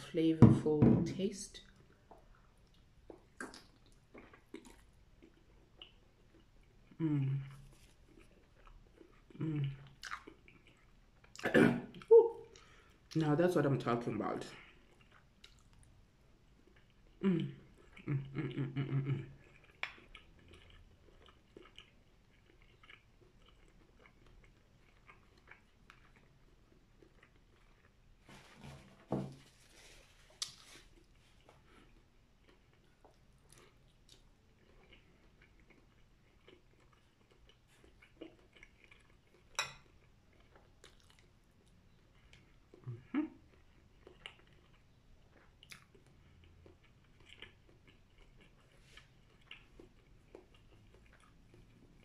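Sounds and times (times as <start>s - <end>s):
person chewing: 1.7s - 13.2s, 14.6s - 28.3s, 29.6s - 52.0s.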